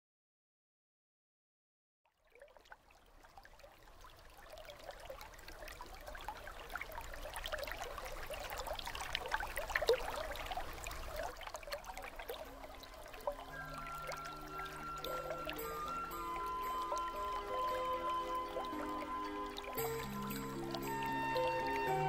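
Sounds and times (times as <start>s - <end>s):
small waterfall splashing: 2.1s - 22.0s.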